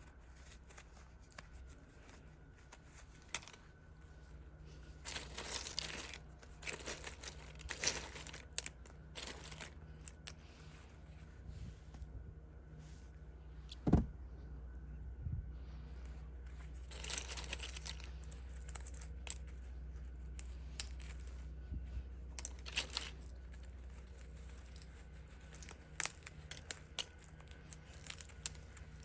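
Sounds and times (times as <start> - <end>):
rustling crinkling sounds: 0.0 - 29.0
steady low hum: 0.0 - 29.0.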